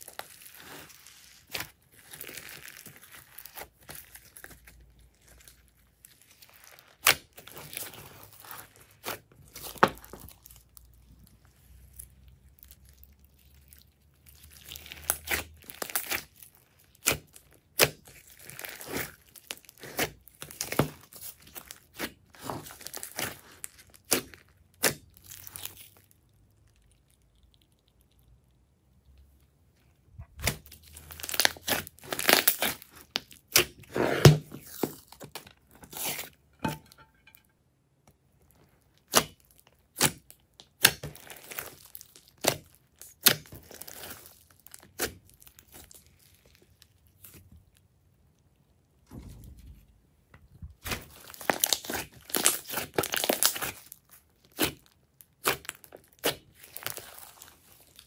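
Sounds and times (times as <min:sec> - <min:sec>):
hands squishing slime: 0:00.0 - 0:36.3, 0:39.0 - 0:48.0, 0:50.5 - 0:58.0.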